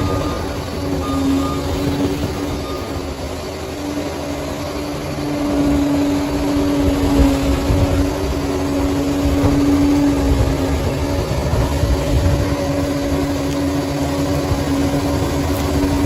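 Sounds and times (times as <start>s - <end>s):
bulldozer diesel engine rumbling: 0.0s - 16.0s.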